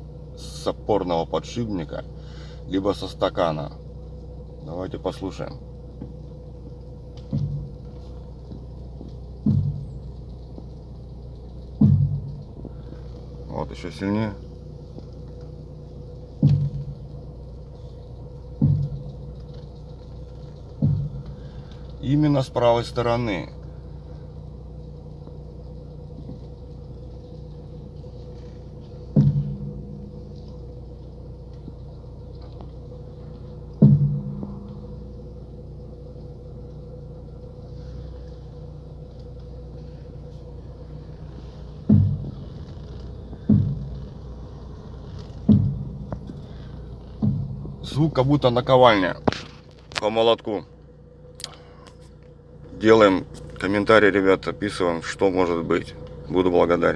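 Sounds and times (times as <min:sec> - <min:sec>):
car suspension knocking: 0:00.0 - 0:56.9
steady low hum: 0:00.0 - 0:56.9.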